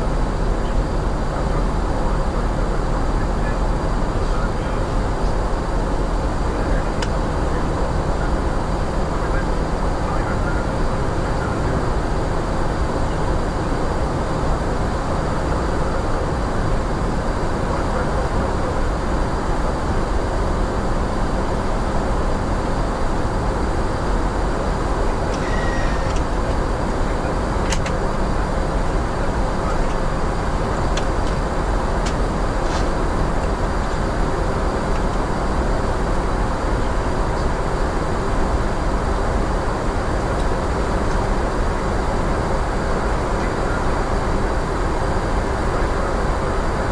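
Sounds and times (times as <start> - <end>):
aircraft cockpit airflow and engine hum: 0.0 - 46.9
faint constant tone: 0.0 - 46.9.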